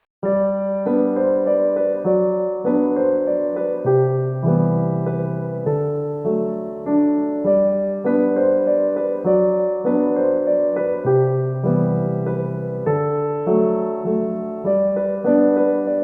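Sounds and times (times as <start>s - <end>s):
gentle piano music: 0.2s - 16.0s.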